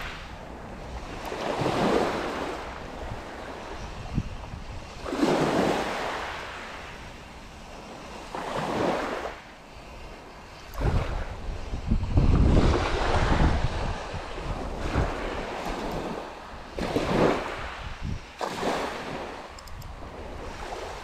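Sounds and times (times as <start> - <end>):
waves washing onto pebble beach: 0.0 - 21.0
wind buffeting microphone: 0.0 - 21.0.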